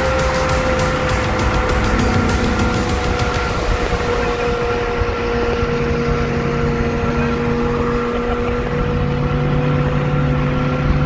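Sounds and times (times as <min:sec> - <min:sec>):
car engine drone: 0:00.0 - 0:11.0
road and wind noise: 0:00.0 - 0:11.0.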